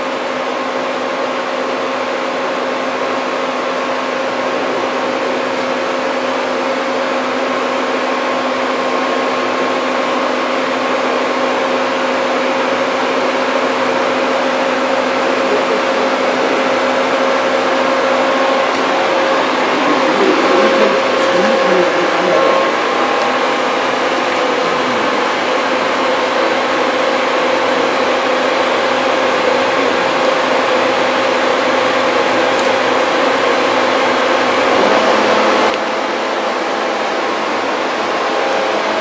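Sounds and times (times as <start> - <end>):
drilling machine hum and hiss: 0.0 - 38.9
machine whine: 0.1 - 39.0.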